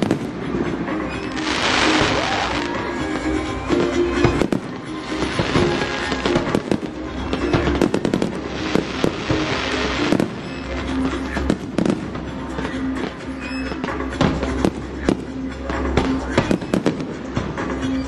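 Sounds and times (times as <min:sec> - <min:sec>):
fireworks bangs and pops: 0:00.0 - 0:18.0
fireworks crackling hiss: 0:00.0 - 0:18.0
music playing: 0:00.0 - 0:18.0.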